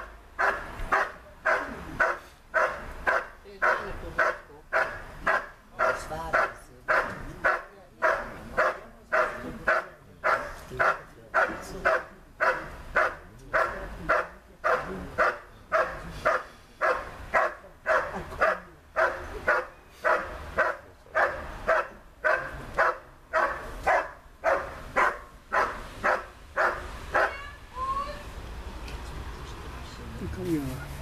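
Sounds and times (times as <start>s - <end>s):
dog barking steadily: 0.0s - 27.5s.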